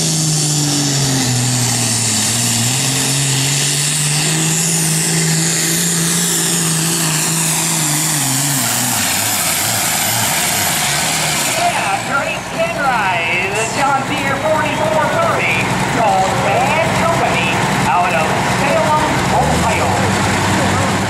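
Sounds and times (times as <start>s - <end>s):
tractor diesel engine at full throttle: 0.0s - 21.0s.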